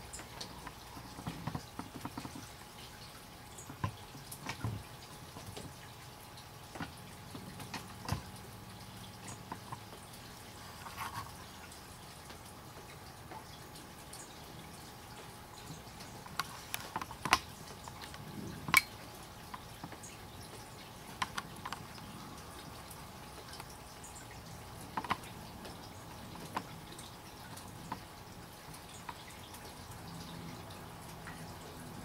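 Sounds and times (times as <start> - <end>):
water drops dripping: 0.0 - 10.6, 11.3 - 32.0
faint steady hiss: 0.0 - 32.0.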